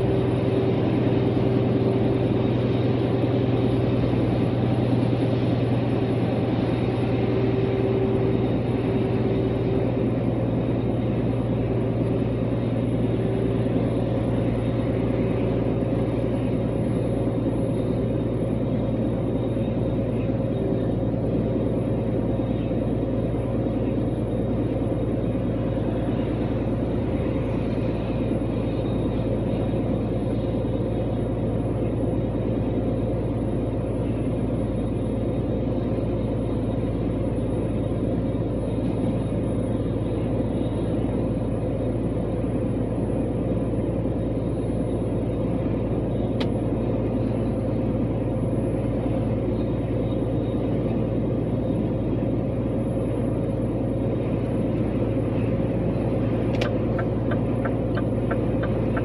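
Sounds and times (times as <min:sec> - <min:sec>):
camper van engine rumble: 0:00.0 - 0:59.0
road noise: 0:00.0 - 0:59.0.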